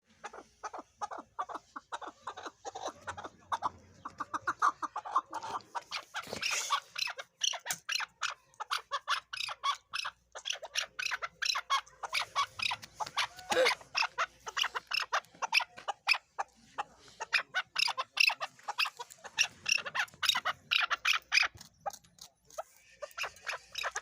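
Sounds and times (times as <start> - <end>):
partridge clucking calls: 0.0 - 24.0.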